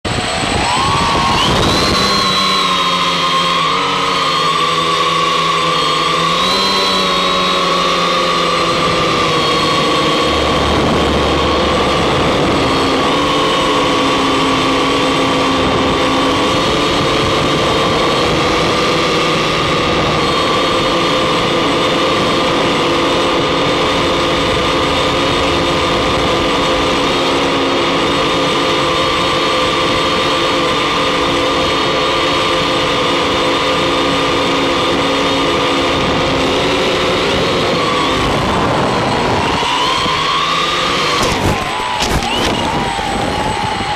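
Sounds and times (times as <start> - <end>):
drone motors whirring: 0.1 - 43.9.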